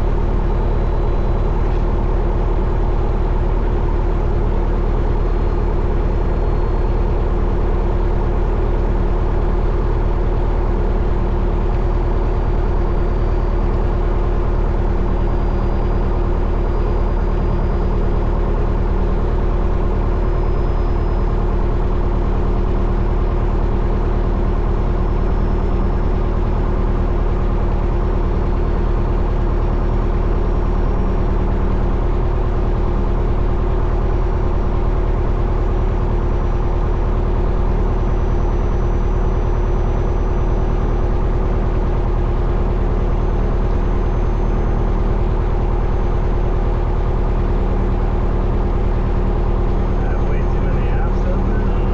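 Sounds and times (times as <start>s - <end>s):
propeller aircraft engine idling: 0.0s - 51.9s.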